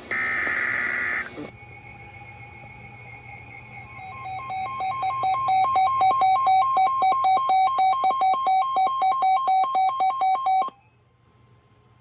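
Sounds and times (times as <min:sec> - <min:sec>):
electronic alarm warble: 0:00.2 - 0:10.8.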